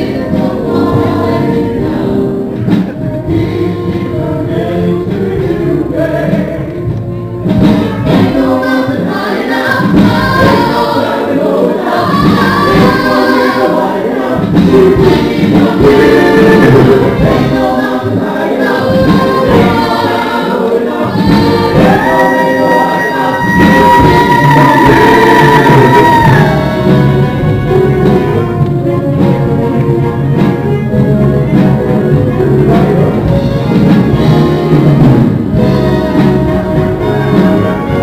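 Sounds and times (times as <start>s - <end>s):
backing vocalists singing: 0.0s - 7.0s, 7.6s - 28.3s, 34.1s - 38.0s
wind band playing: 0.0s - 38.0s.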